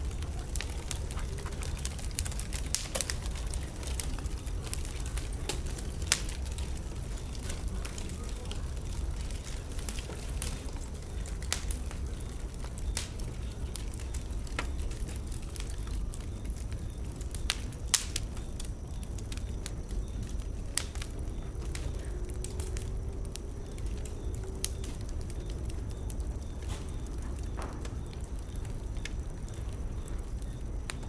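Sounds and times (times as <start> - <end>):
bonfire burning with pops and crackles: 0.0 - 31.0.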